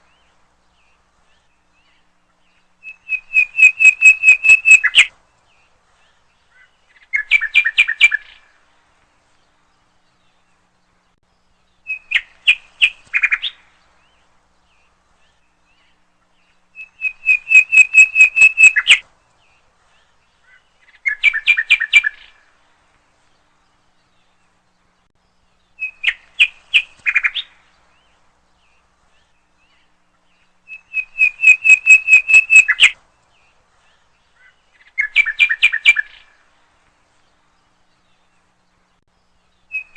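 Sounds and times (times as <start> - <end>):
songbird singing whistled notes: 0.0 - 8.6, 9.4 - 22.6, 23.3 - 36.5, 37.1 - 39.9.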